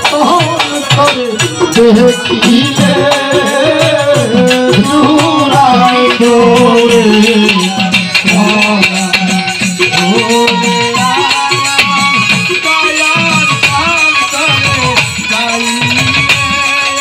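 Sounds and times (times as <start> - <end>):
hand drum and rattling percussion: 0.0 - 17.0
man singing through microphone: 0.0 - 17.0.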